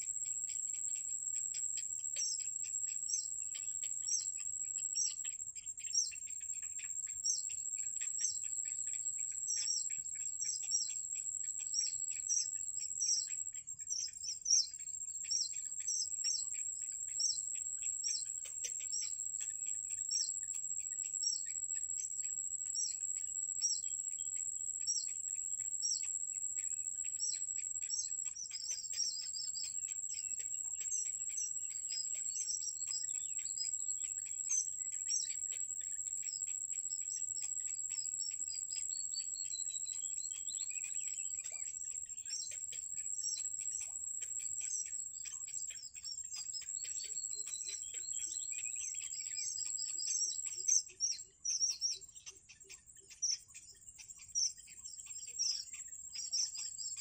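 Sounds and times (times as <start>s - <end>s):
insect trill: 0.0s - 57.0s.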